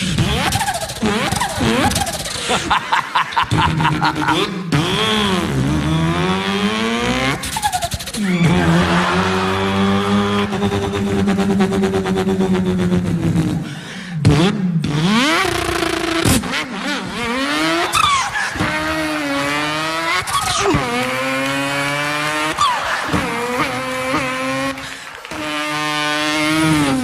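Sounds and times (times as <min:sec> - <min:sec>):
man imitating car engine: 0:00.0 - 0:27.0.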